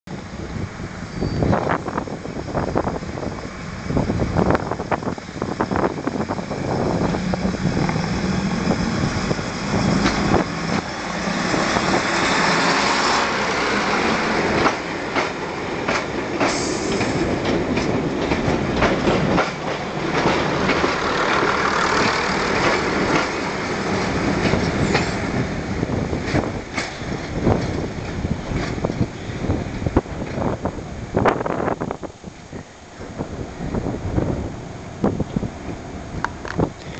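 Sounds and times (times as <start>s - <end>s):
diesel train engines under load: 0.1s - 36.9s
train wheels clicking on track: 1.5s - 31.5s, 35.1s - 36.9s.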